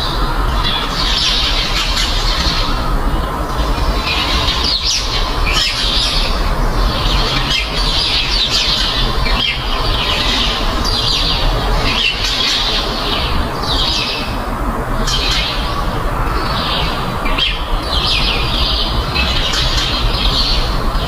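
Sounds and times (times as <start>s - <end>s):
birds squawking: 0.0s - 21.0s
steady low rumble: 0.0s - 21.0s.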